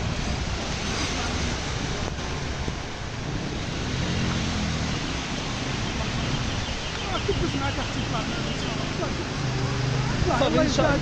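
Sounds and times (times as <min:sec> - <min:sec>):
wind and water noise: 0:00.0 - 0:11.0.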